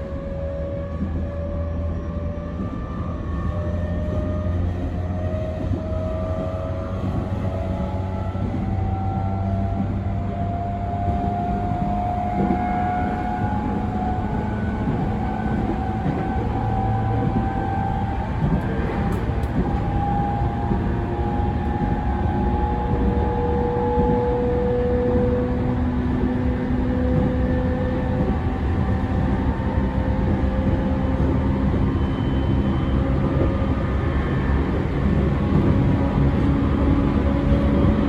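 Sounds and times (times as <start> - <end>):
train wheels rumbling: 0.0 - 38.0.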